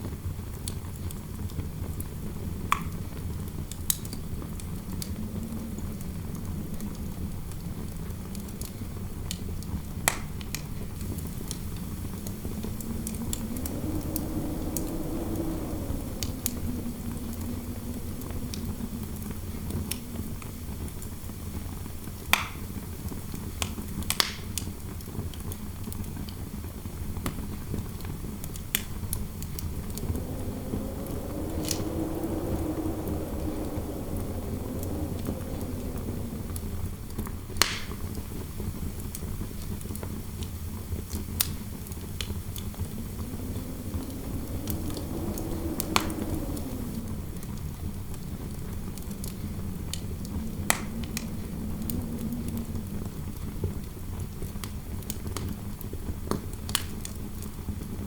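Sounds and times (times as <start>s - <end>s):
fire crackling and popping: 0.6s - 58.0s
wind howling: 1.8s - 8.7s, 10.3s - 23.4s, 27.6s - 40.0s, 40.6s - 55.4s.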